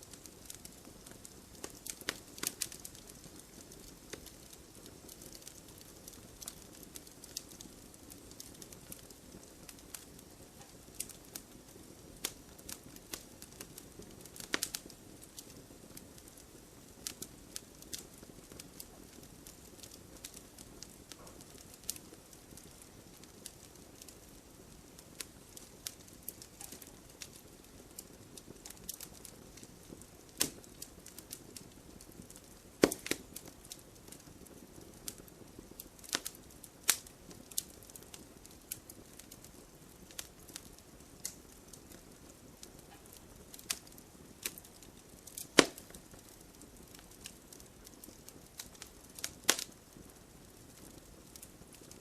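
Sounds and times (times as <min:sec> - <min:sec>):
firewood crackling and popping: 0:00.0 - 0:52.0.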